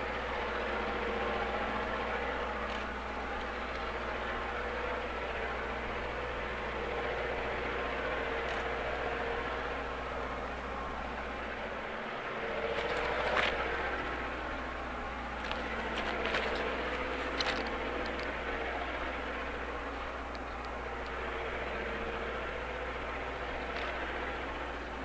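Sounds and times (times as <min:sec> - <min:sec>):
low hum: 0:00.0 - 0:25.0
train rumbling on tracks: 0:00.0 - 0:25.0.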